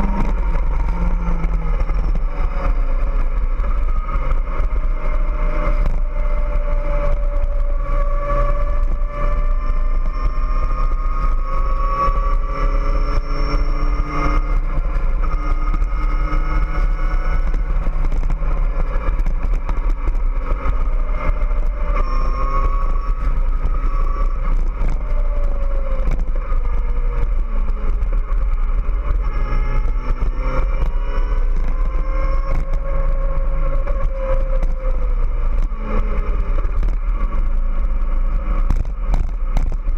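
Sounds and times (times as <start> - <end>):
low wind rumble: 0.0 - 39.9
motorcycle engine running: 0.0 - 39.9.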